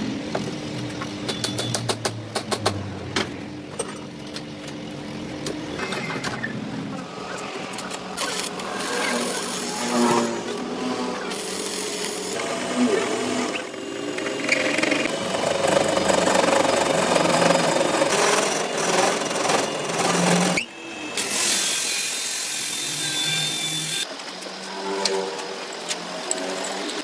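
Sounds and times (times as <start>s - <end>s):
workshop power tool noise: 0.0s - 27.0s.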